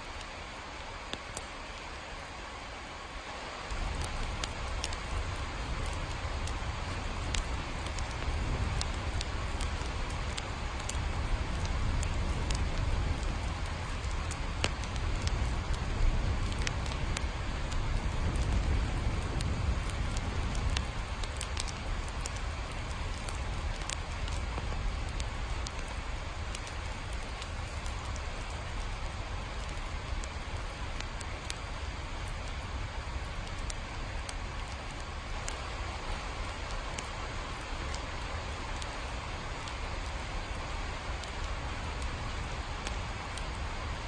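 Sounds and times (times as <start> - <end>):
rain drops ticking: 0.0 - 44.0
steady rain hiss: 0.0 - 44.0.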